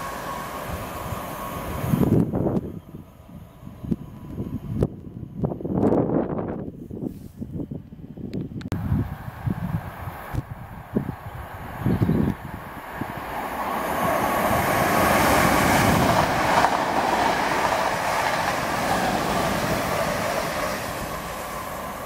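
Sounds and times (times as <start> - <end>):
train wheels rushing on rails: 0.0 - 6.6, 8.8 - 22.0
wind buffeting microphone: 0.0 - 22.0.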